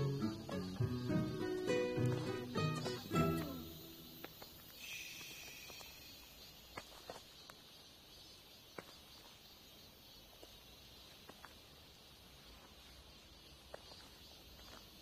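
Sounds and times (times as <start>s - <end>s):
faint high insect drone: 0.0s - 15.0s.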